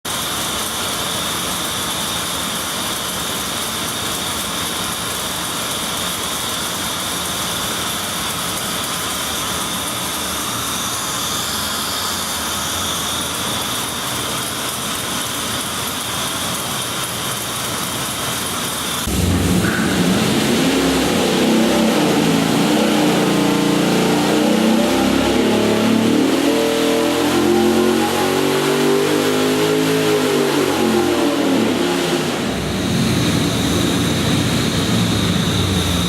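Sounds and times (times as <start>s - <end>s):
machine noise with high whine: 0.1s - 36.0s.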